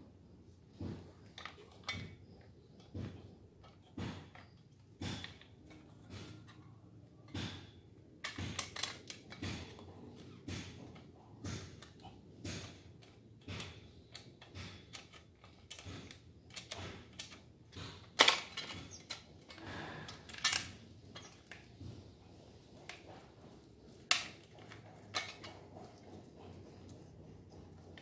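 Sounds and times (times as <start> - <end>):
plastic parts clicking and snapping: 0.7 - 22.0, 23.9 - 26.0.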